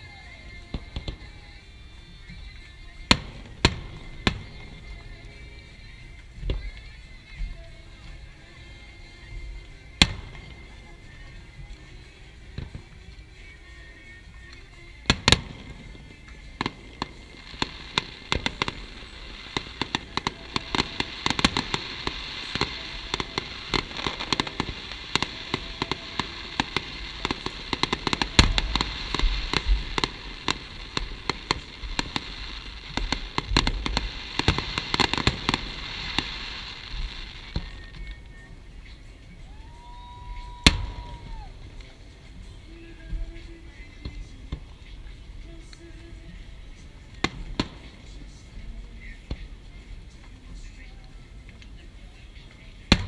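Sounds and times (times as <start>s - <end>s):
fireworks bangs and crackle: 0.0s - 13.4s, 14.1s - 53.0s.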